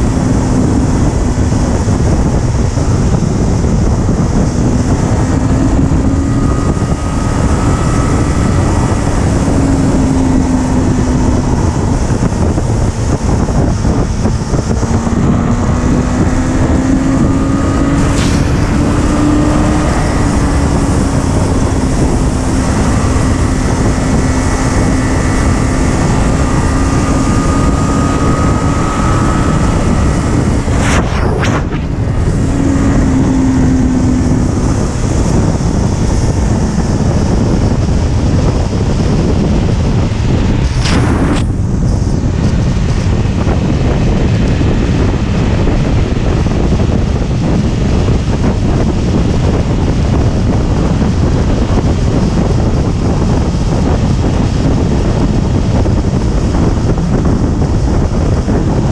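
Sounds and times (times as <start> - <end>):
motorcycle engine cruising: 0.0 - 58.9
wind rush on microphone: 0.0 - 58.9.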